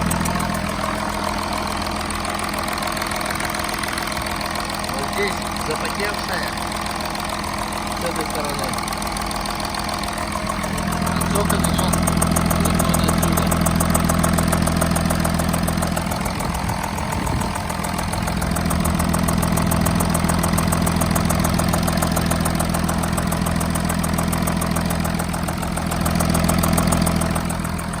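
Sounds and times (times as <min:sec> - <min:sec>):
diesel engine idling: 0:00.0 - 0:28.0
rapid even ticking: 0:00.0 - 0:28.0.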